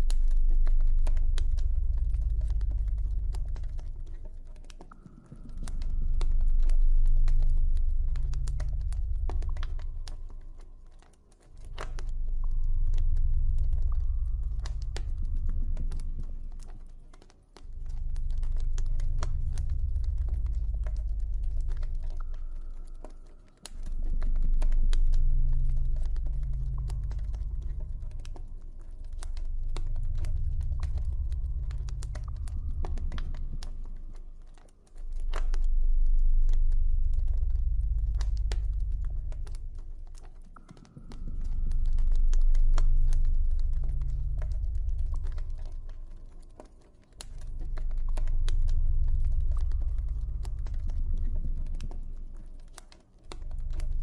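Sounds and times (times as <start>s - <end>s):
deep low drone: 0.0s - 54.0s.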